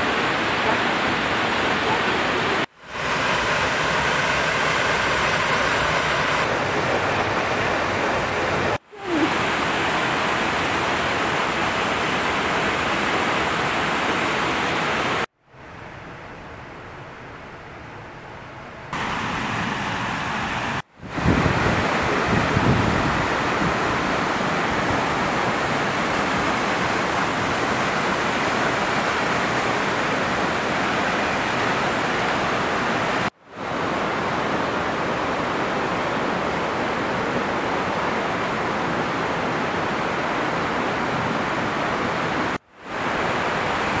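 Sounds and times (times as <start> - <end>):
waterfall and river rapids rushing: 0.0 - 44.0.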